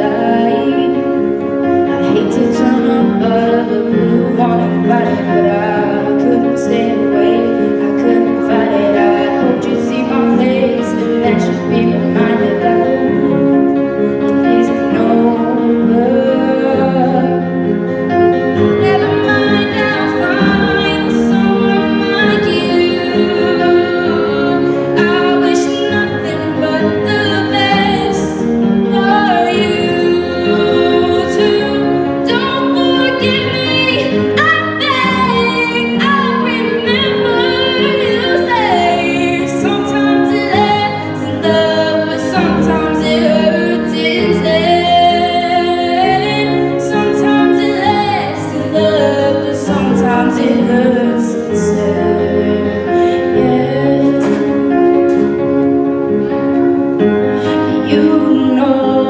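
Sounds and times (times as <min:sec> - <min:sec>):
instrumental backing track: 0:00.0 - 0:59.0
girl singing into microphone: 0:01.8 - 0:13.4, 0:18.8 - 0:55.3, 0:57.4 - 0:59.0.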